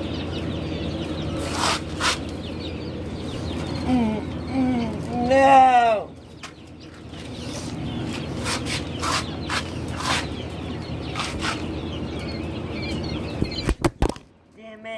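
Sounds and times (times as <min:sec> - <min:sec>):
chickens squawking and clucking: 0:00.0 - 0:14.1
fowl chirping: 0:00.0 - 0:14.1.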